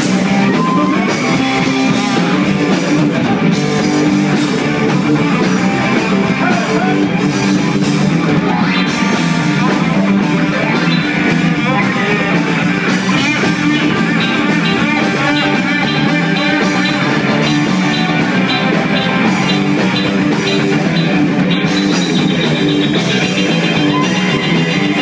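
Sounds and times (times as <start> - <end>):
live band playing boogie: 0.0 - 25.0.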